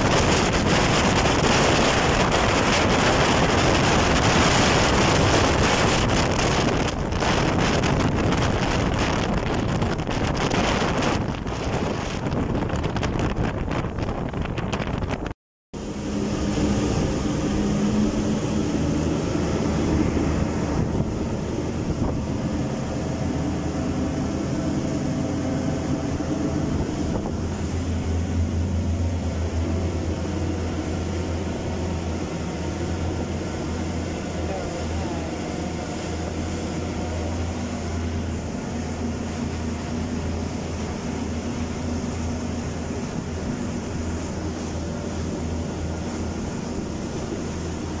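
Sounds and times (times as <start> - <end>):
boat engine humming: 0.0 - 48.0
water rushing past hull: 0.0 - 48.0
wind buffeting microphone: 0.0 - 48.0.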